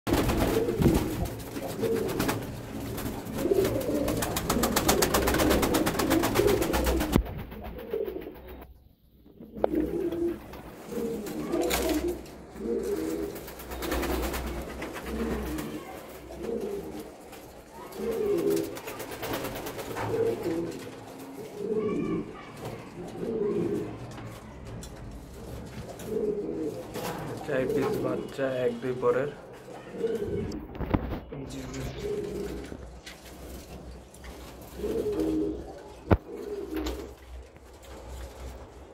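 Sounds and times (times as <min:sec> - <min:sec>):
pigeons cooing: 0:00.1 - 0:38.9.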